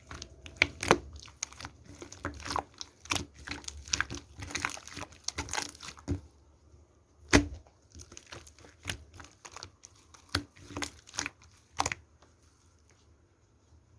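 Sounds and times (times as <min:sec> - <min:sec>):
slime clicking and crackling: 0:00.0 - 0:06.4, 0:07.2 - 0:12.9.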